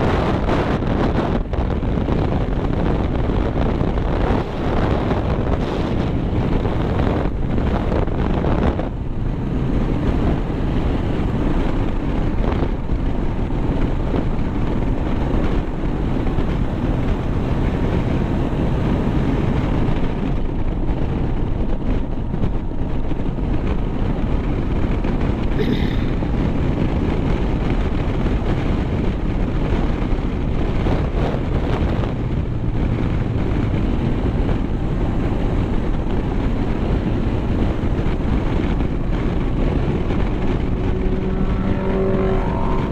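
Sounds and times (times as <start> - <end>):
vehicle road noise: 0.0 - 42.9
wind buffeting microphone: 0.0 - 42.9.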